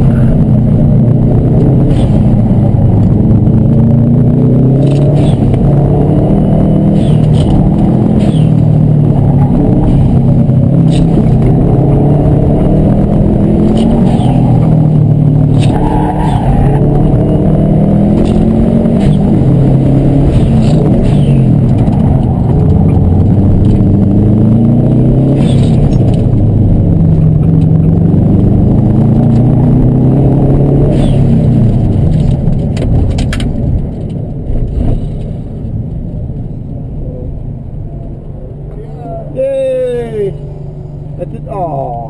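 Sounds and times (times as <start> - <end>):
car engine revving in cabin: 0.0 - 42.0.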